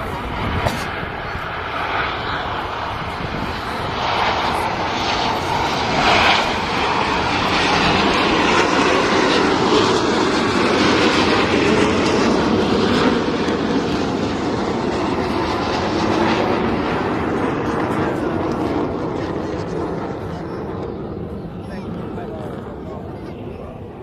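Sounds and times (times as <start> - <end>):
aircraft engine running: 0.0 - 24.0.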